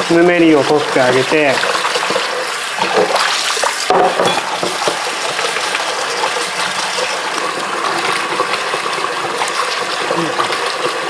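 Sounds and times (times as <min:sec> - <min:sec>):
tap water running over noodles: 0:00.0 - 0:11.0.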